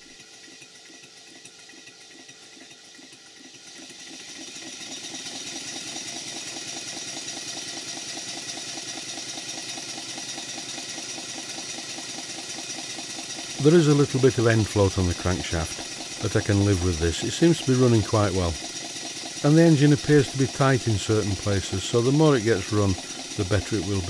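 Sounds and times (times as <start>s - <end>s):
model steam engine exhaust beat: 0.0s - 24.0s.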